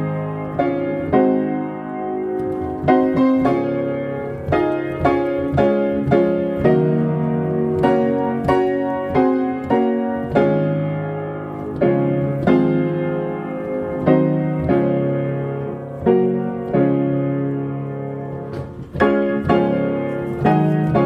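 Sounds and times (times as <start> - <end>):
piano playing hymn chords: 0.0 - 21.0.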